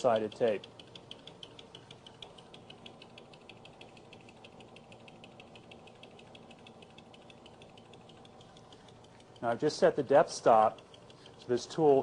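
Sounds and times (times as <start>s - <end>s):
faint even ticking of lathe tool: 0.0s - 12.0s
lathe low hum: 0.0s - 12.0s.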